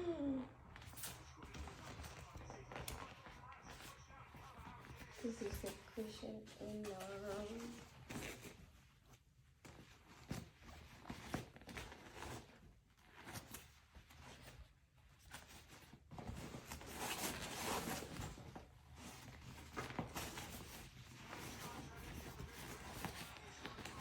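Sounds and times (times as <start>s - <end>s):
rustling and handling noises: 0.0s - 24.0s.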